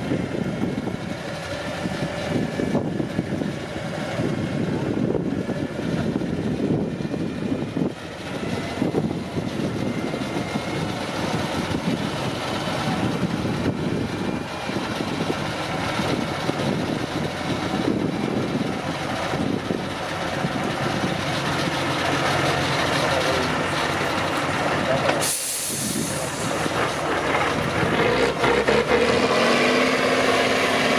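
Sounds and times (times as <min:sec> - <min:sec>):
heavy truck engine under load: 0:00.0 - 0:30.9.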